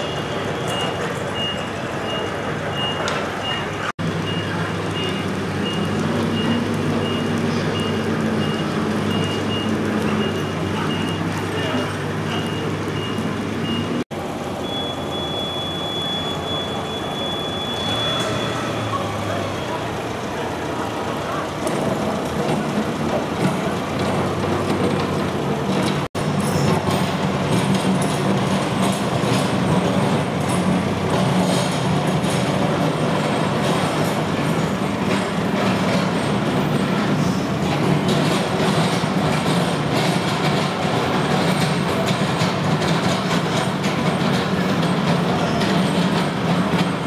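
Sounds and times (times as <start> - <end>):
vehicle running hum: 0.0 - 47.0.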